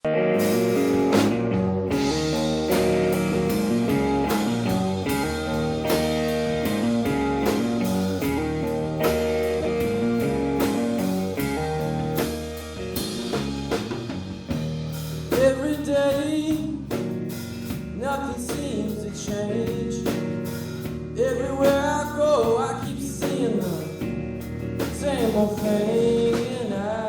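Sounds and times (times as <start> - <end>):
bass: 0.0 - 27.0
drum kit: 0.0 - 27.0
electric guitar: 0.0 - 27.0.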